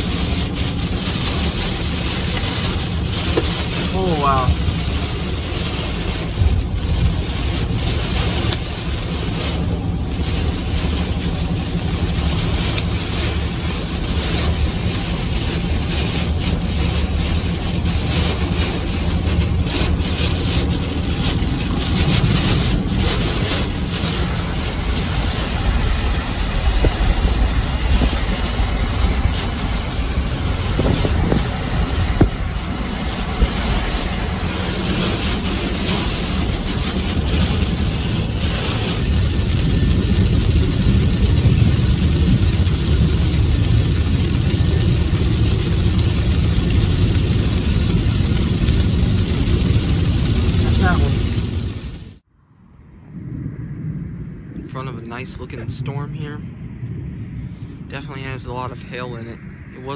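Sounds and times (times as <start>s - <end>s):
heavy rain on car: 0.0s - 52.3s
deep rumble: 0.0s - 59.9s.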